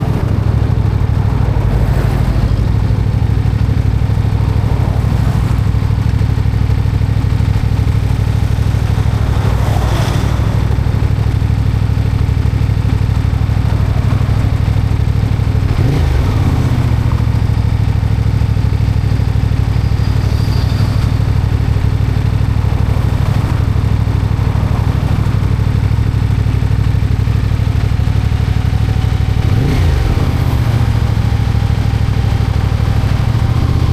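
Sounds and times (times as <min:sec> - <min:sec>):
engine knocking: 0:00.0 - 0:33.9
motorcycle engine idling: 0:00.0 - 0:33.9.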